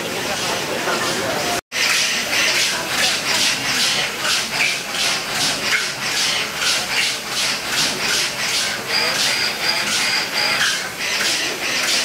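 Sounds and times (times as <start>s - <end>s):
robot arm rhythmic rasping whir: 1.8s - 12.0s.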